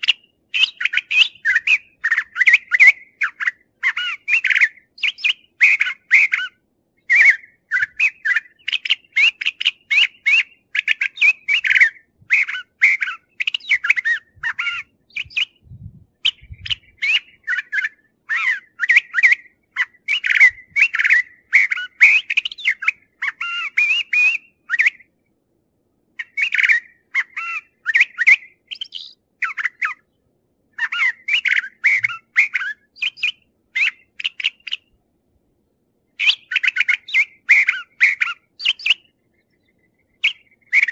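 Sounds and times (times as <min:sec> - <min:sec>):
bird singing varied phrases: 0:00.0 - 0:25.4, 0:26.2 - 0:35.0, 0:36.1 - 0:40.9.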